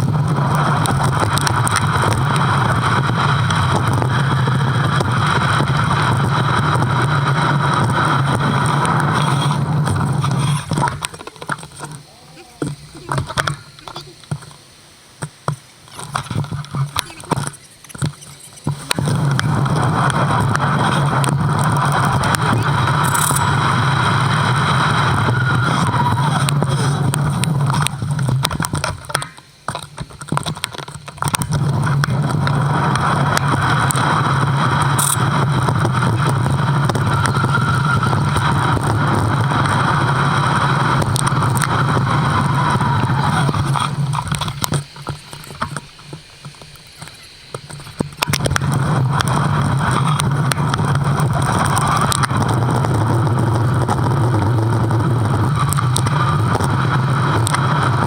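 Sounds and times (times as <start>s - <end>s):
wind roar on microphone: 0.0s - 14.4s, 18.7s - 29.2s, 30.4s - 46.2s, 46.9s - 58.0s.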